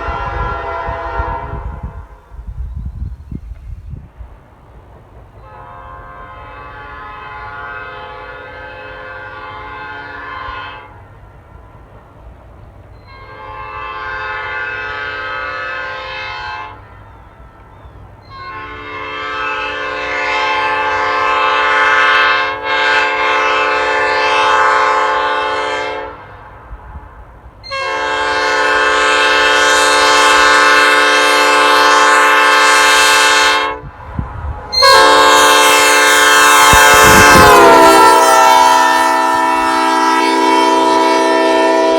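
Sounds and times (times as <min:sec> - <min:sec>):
locomotive air horn blasts: 0:00.0 - 0:02.3, 0:05.4 - 0:11.7, 0:13.0 - 0:17.2, 0:18.2 - 0:26.5, 0:27.6 - 0:41.9.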